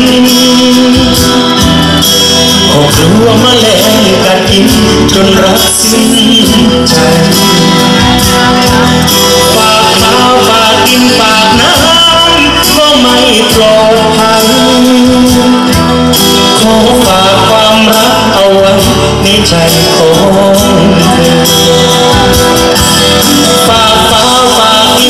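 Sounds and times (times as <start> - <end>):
loud amplified music: 0.0 - 25.0
man singing into microphone: 0.0 - 25.0.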